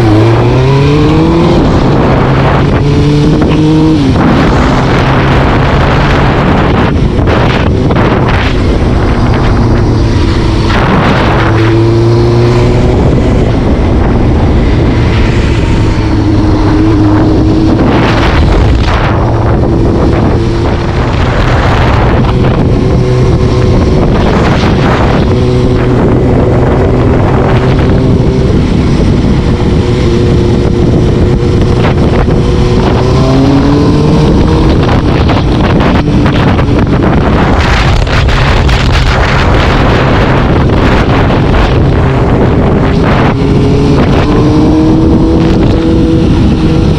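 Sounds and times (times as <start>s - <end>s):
vehicle engine running: 0.0s - 46.9s
wind rushing over microphone: 0.0s - 46.9s.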